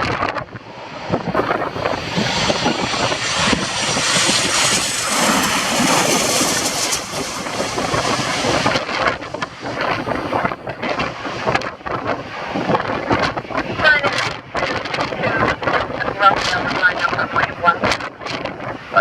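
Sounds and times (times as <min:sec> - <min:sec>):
jet engines passing: 0:00.0 - 0:19.0
wind buffeting microphone: 0:00.0 - 0:19.0.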